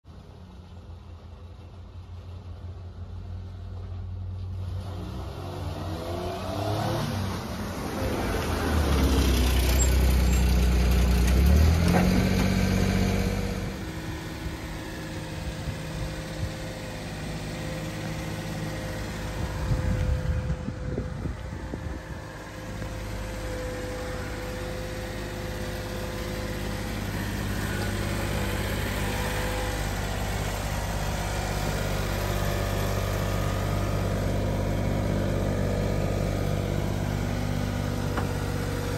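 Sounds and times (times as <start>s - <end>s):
truck engine revving and idling: 0.1s - 38.9s.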